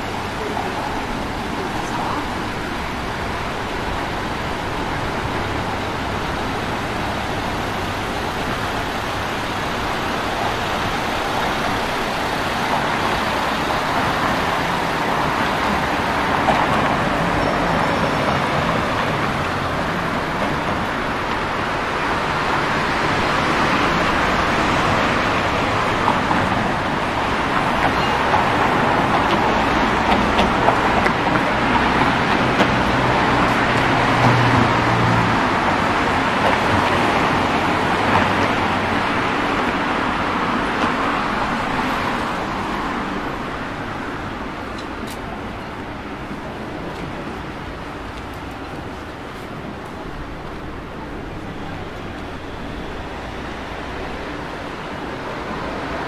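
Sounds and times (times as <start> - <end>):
cars passing: 0.0 - 56.0.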